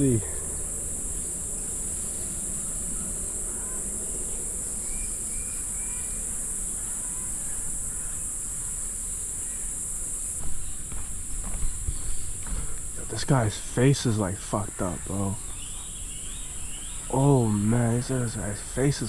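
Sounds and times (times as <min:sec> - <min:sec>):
faint bird chirps: 0:00.0 - 0:19.0
insect chorus buzzing: 0:00.0 - 0:19.0.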